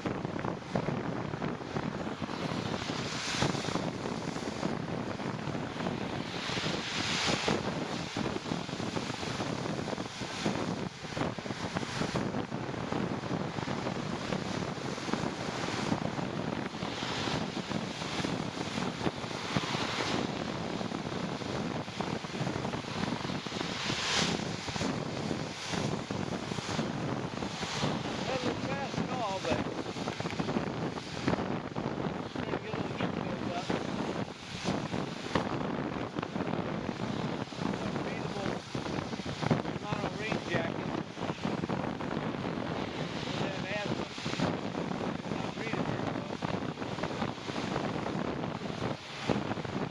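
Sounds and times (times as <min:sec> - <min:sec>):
steady hiss of rain: 0:00.0 - 0:49.9
wind rushing over microphone: 0:00.0 - 0:49.9.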